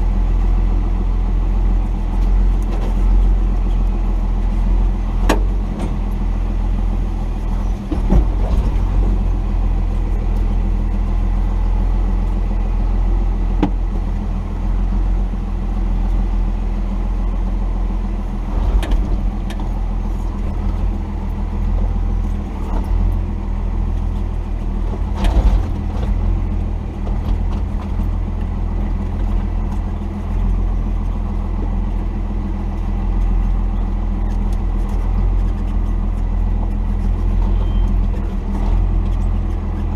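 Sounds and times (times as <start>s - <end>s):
diesel engine running: 0.0s - 39.9s
engine knocks and clatters: 0.0s - 39.9s.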